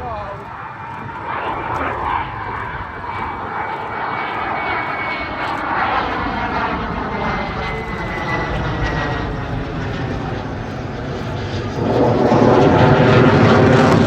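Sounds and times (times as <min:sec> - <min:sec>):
aircraft engine roar: 0:00.0 - 0:14.0
faint engine whine: 0:00.0 - 0:14.0.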